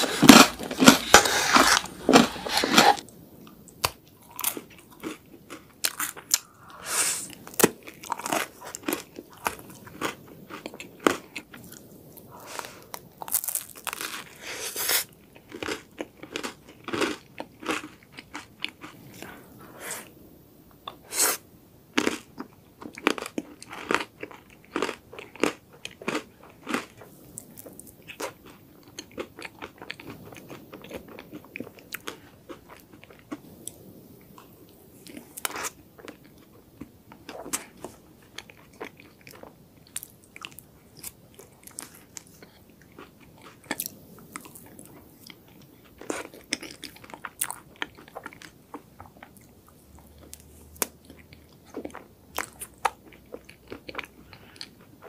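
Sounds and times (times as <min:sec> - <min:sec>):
crunching and chewing: 0:00.0 - 0:19.8, 0:22.0 - 0:55.0.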